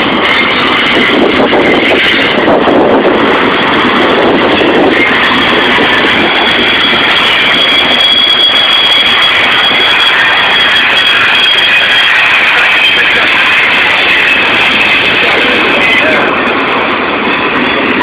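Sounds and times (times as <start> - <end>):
freight train wheels rumbling: 0.0 - 18.0
high steady whine: 0.0 - 18.0.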